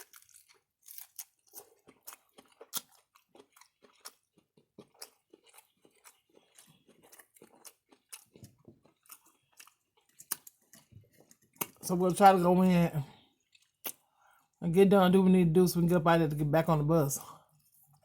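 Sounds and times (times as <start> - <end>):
person chewing crunchy food: 0.0 - 12.3, 13.0 - 14.6, 17.2 - 18.0.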